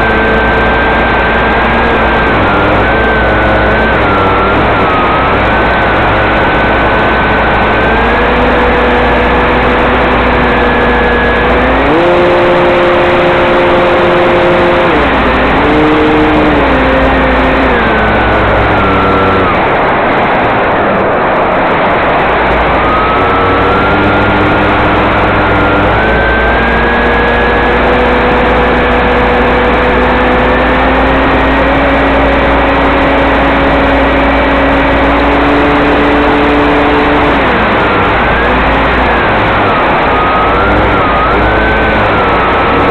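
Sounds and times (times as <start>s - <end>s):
electric motor and propeller whine: 0.0s - 42.9s.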